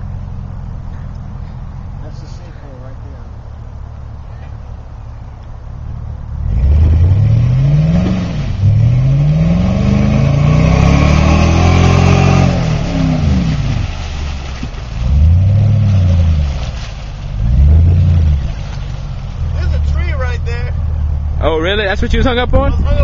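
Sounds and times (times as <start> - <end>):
car engine revving: 0.0 - 22.3.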